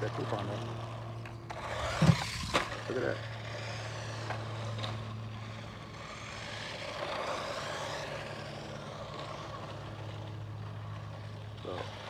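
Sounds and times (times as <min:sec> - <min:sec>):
electric motor whining: 0:00.0 - 0:12.0
tyre noise on asphalt: 0:00.0 - 0:12.0.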